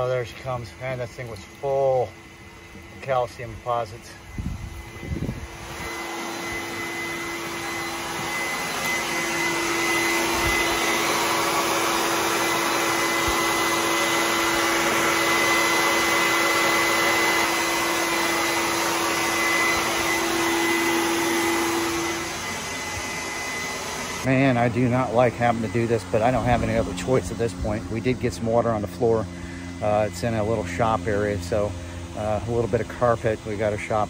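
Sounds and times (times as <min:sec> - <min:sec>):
shop vacuum whining: 0:00.0 - 0:34.0.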